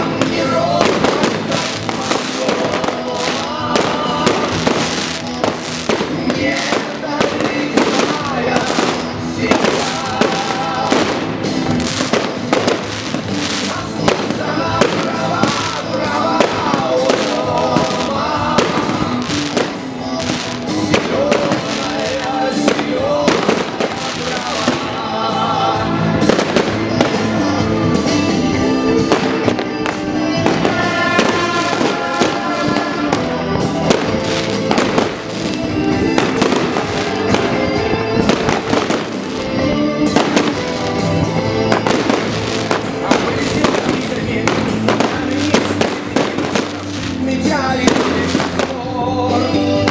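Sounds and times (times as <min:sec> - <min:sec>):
fireworks bangs and crackles: 0:00.0 - 0:49.9
loud music with singing: 0:00.0 - 0:49.9.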